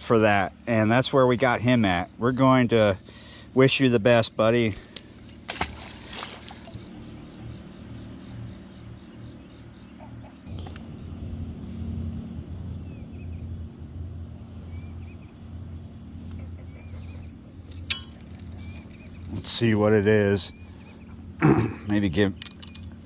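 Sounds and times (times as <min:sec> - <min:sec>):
low steady hum: 0:00.0 - 0:23.0
night insects chorus: 0:00.0 - 0:23.0.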